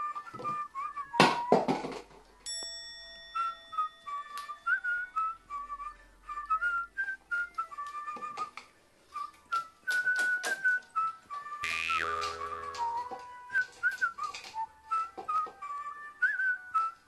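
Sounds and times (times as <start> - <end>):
person whistling a tune: 0.0 - 1.7, 3.3 - 17.0.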